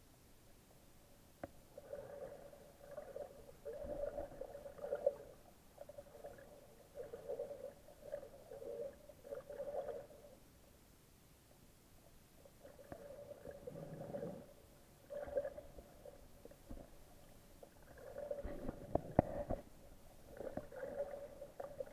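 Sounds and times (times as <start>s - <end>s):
faint steady hum: 0.0s - 21.9s
underwater gurgling: 1.6s - 10.4s, 12.4s - 21.9s.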